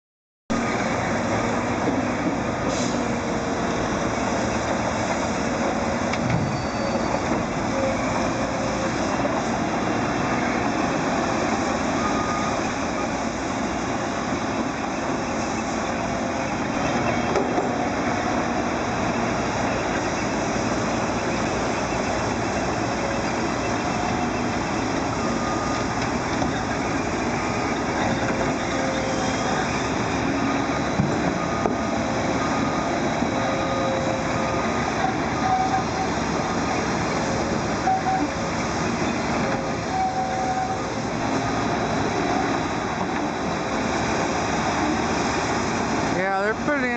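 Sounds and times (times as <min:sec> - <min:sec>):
heavy diesel engines droning: 0:00.5 - 0:46.9.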